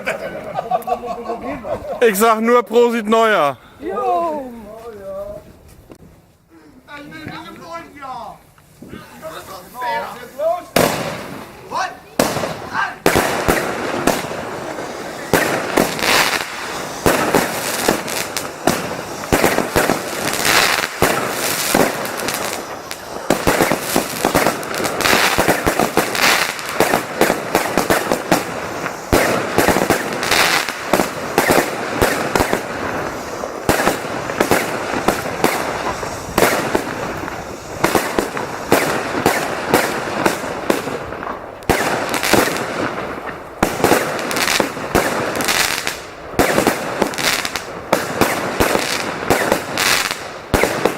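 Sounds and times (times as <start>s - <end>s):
fireworks bangs and crackles: 7.0s - 50.9s.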